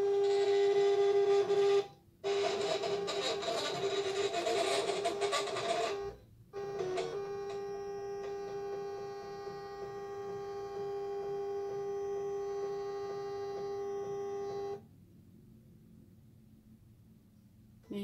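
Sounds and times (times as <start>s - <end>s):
cutting machine motor whine: 0.0s - 14.8s.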